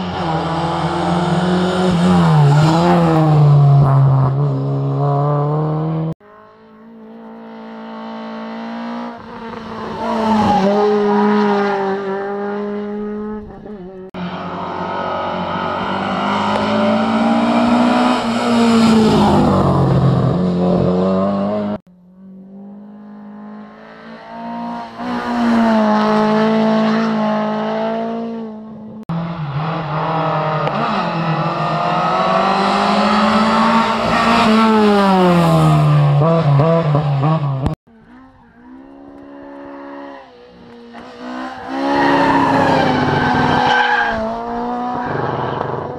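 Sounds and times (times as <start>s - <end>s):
rally cars at full throttle: 0.0s - 45.9s.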